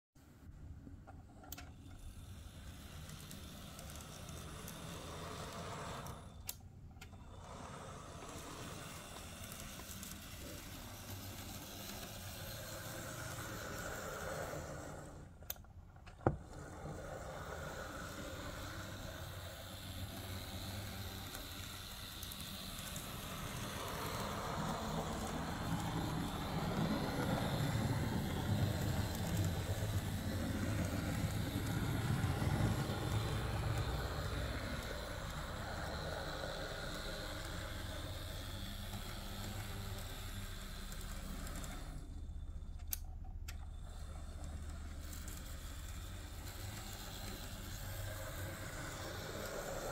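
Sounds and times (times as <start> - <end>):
model train wheels on rails: 0.4 - 49.9
tiny electric motor whirring: 1.6 - 15.6, 16.2 - 43.0, 43.6 - 49.9.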